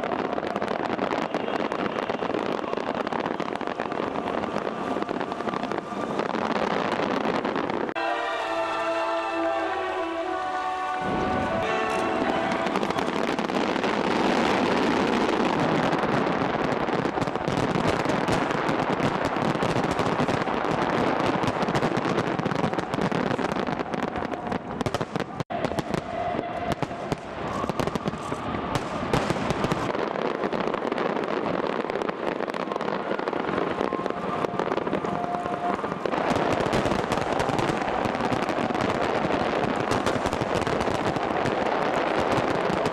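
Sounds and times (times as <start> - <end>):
fireworks crackling and banging: 0.0 - 42.9.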